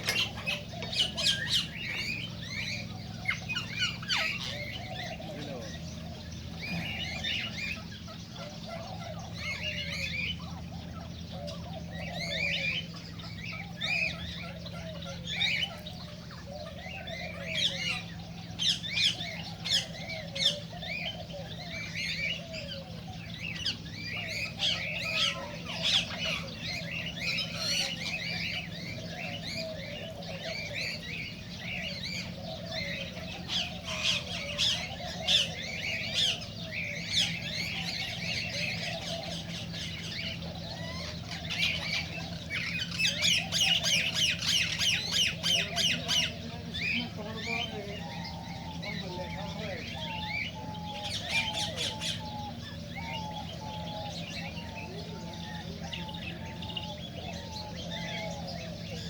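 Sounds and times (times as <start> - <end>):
cockatiels chirping and squawking: 0.0 - 59.0
steady low hum: 0.0 - 59.0.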